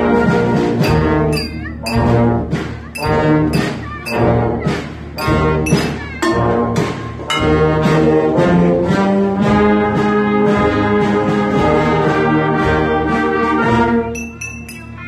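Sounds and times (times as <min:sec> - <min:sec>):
wind band playing chords: 0:00.0 - 0:14.3.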